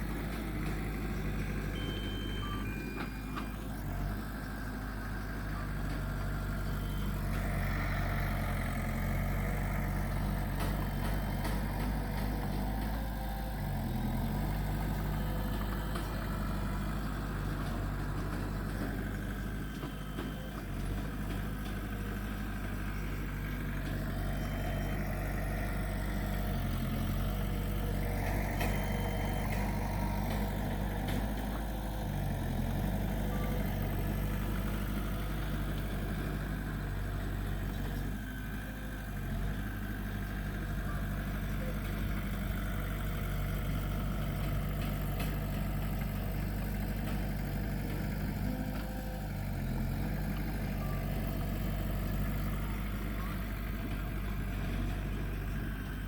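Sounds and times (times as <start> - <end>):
heavy diesel engine drone: 0.0 - 56.0.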